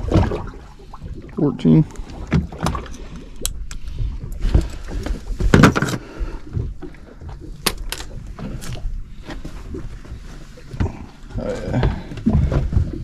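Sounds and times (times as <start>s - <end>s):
clicks and knocks of handling fish: 1.9s - 13.0s.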